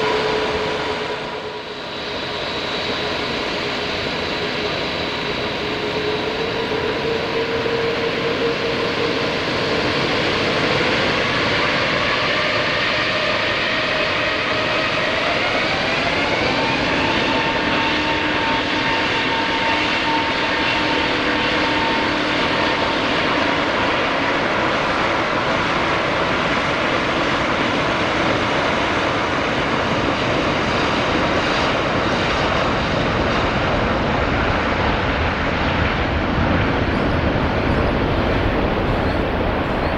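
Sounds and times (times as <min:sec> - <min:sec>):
jet engines spooling up: 0:00.0 - 0:39.9
loud jet noise: 0:00.0 - 0:39.9.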